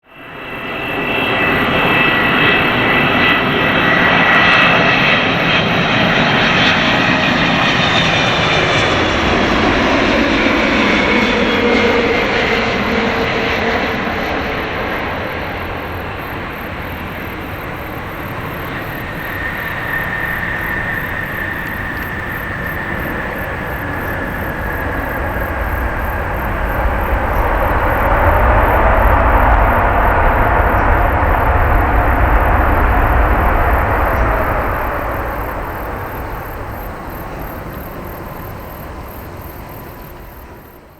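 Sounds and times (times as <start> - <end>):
jet engines roaring and whining: 0.0 - 40.9.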